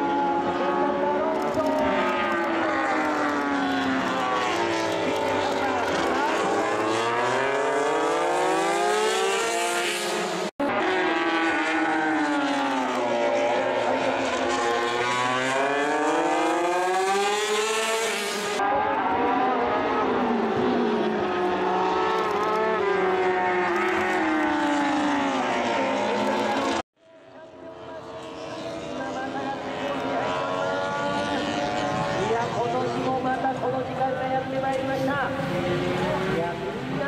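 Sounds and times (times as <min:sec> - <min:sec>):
racing motorcycle engines revving: 0:00.0 - 0:37.0.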